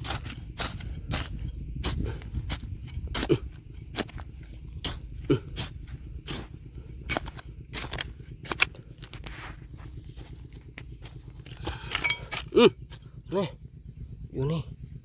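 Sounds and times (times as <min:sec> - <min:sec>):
tool scraping stones in gravel: 0:00.0 - 0:13.0
steady low rumble: 0:00.0 - 0:15.0.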